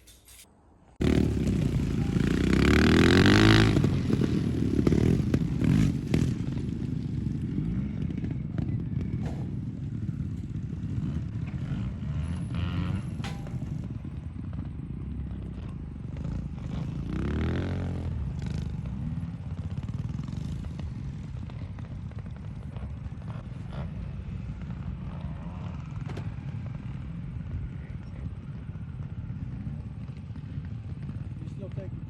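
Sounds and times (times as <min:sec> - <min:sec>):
motorbike engine running: 0:01.0 - 0:32.0.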